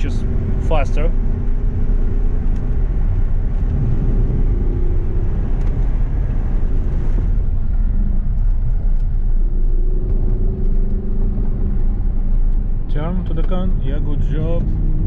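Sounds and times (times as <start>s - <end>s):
car engine rumble from inside cabin: 0.0s - 15.0s.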